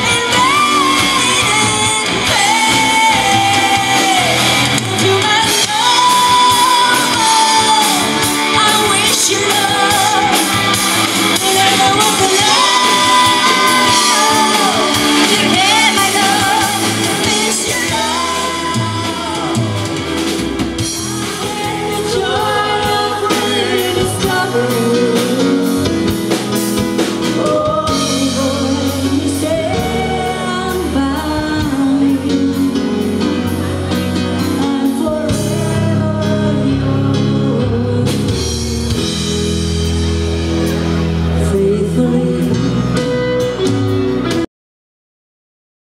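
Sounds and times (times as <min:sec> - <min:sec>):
person singing: 0:00.0 - 0:39.2, 0:40.8 - 0:44.5
bass guitar: 0:00.0 - 0:44.5
drum kit: 0:00.0 - 0:44.5
electric guitar: 0:00.0 - 0:44.5.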